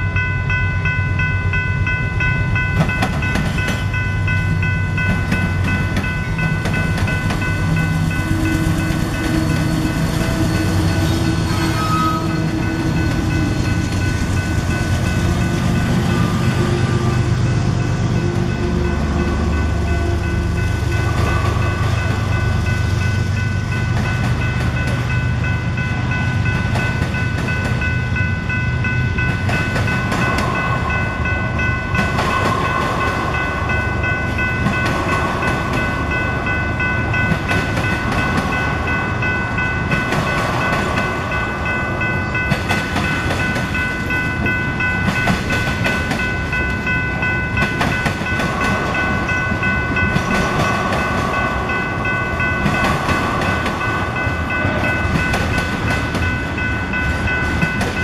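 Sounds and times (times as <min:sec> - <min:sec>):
train wheels rumbling and clattering: 0:00.0 - 0:58.0.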